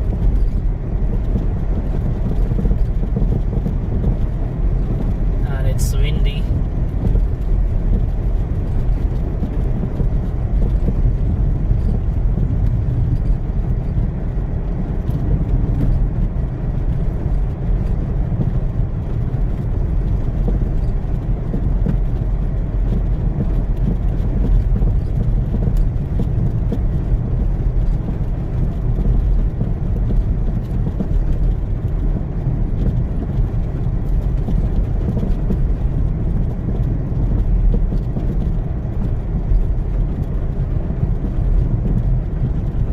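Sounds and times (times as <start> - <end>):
car engine: 0.0 - 42.9
strong wind: 0.0 - 42.9
tyres rumbling on snowy road: 0.0 - 42.9.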